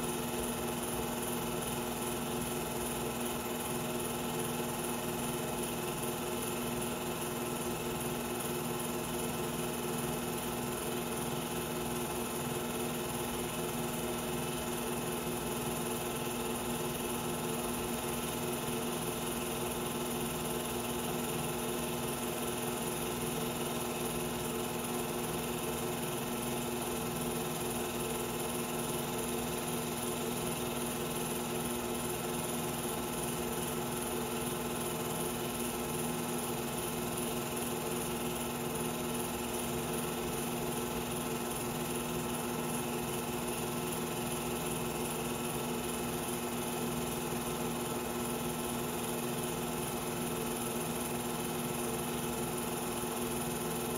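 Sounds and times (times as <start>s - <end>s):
film projector whirring: 0.0s - 53.9s.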